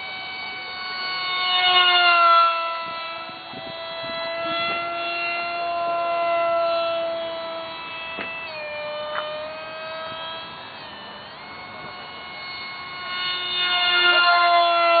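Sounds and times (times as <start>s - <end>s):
model jet engine whine: 0.0s - 15.0s.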